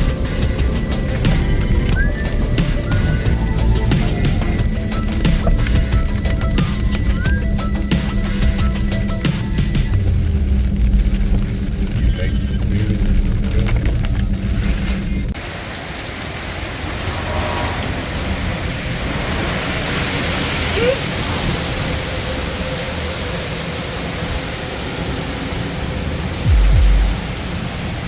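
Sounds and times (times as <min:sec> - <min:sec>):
heavy rain: 0:00.0 - 0:28.0
hurricane wind: 0:00.0 - 0:28.0.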